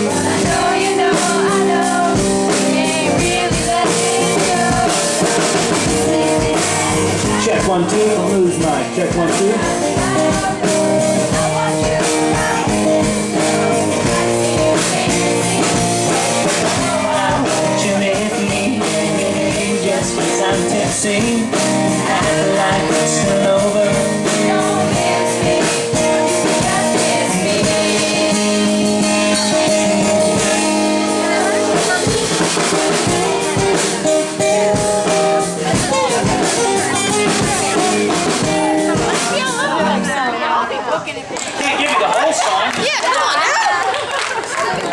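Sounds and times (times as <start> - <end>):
person singing: 0.0 - 40.0
drums: 0.0 - 40.4
guitar: 0.0 - 41.8.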